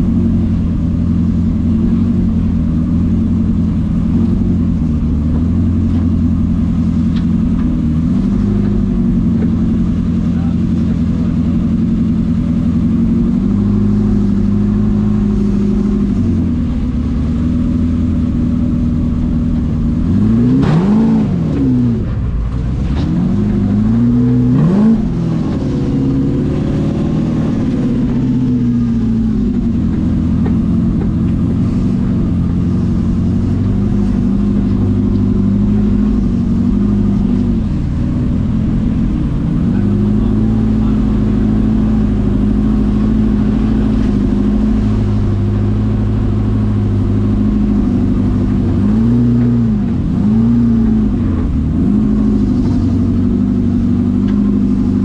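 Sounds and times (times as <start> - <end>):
buggy engine running and revving: 0.0 - 55.0.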